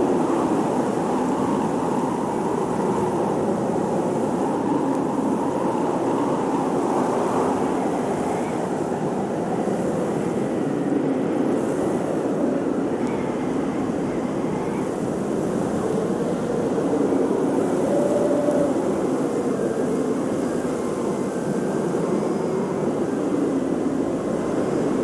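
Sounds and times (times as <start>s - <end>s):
blizzard wind blowing: 0.0s - 25.0s.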